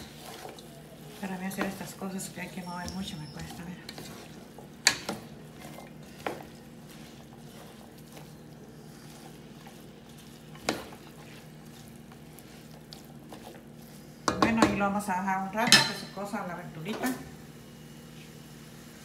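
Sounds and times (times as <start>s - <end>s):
wooden spatula stirring vegetables: 0.0s - 16.1s
vegetables sizzling: 0.0s - 19.0s.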